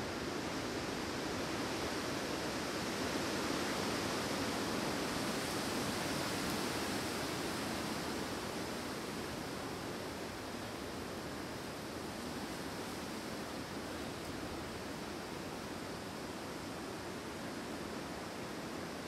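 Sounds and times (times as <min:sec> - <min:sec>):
wind blowing through trees: 0:00.0 - 0:19.0.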